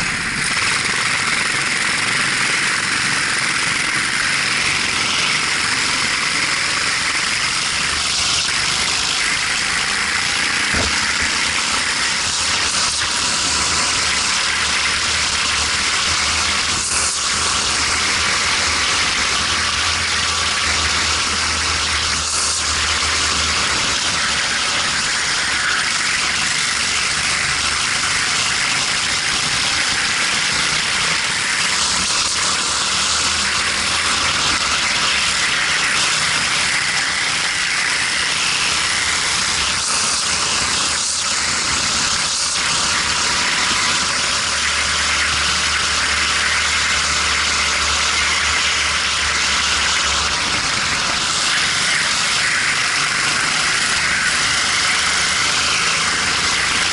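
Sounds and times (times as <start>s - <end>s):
go-kart engine: 0.0s - 56.9s.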